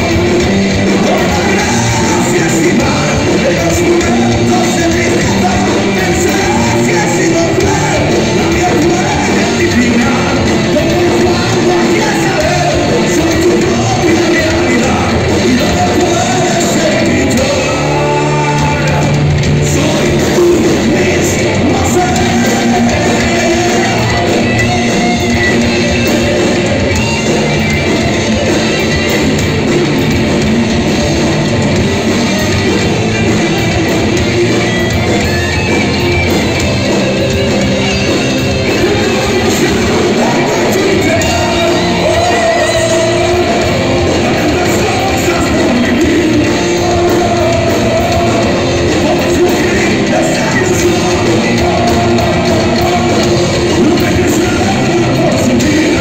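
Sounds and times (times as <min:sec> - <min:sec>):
man singing: 0:00.0 - 0:29.2, 0:36.4 - 0:56.0
heavy metal band playing: 0:00.0 - 0:56.0.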